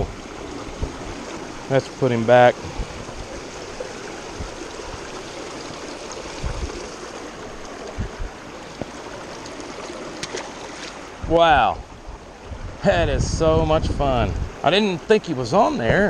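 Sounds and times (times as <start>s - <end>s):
creek water trickling: 0.0s - 15.9s.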